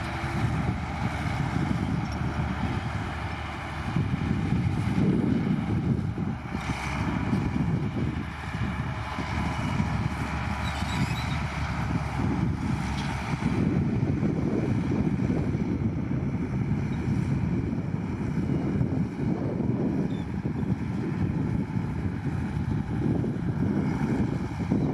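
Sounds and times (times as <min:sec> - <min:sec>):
diesel earthmoving machinery running: 0:00.0 - 0:24.9
wind buffeting microphone: 0:00.0 - 0:24.9.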